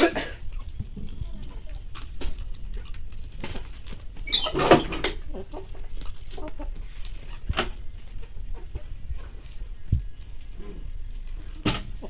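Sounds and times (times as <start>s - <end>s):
hens clucking: 0.0s - 12.0s
hens pecking on gravel: 0.0s - 12.0s.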